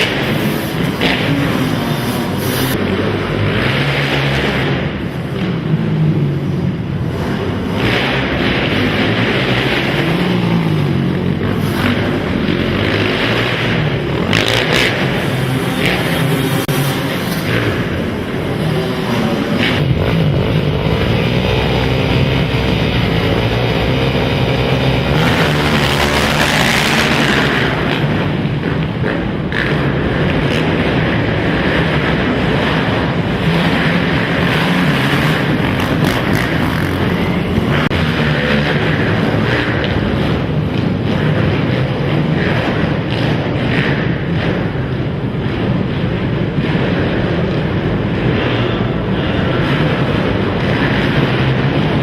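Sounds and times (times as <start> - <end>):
quad engines revving: 0.0 - 52.0.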